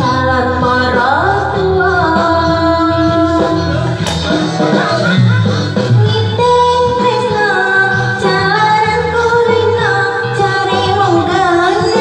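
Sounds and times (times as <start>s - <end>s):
backing track with bass line: 0.0s - 12.0s
woman singing into microphone: 0.0s - 12.0s.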